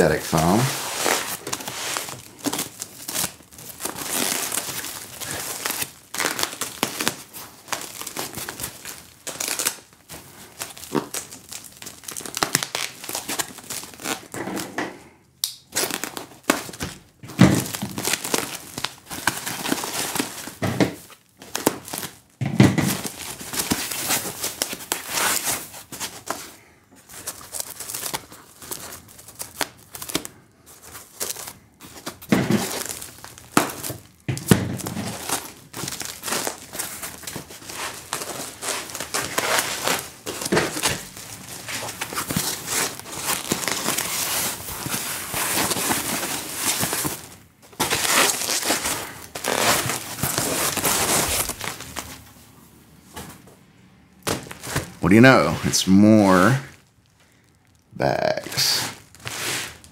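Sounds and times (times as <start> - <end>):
plastic wrapping crinkling and tearing: 0.0 - 14.6, 15.4 - 52.4, 54.2 - 59.9.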